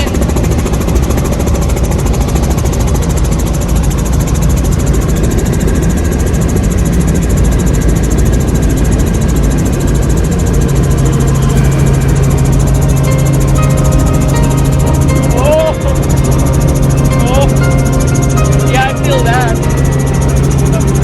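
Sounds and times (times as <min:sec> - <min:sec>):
helicopter engine and rotors: 0:00.0 - 0:21.0.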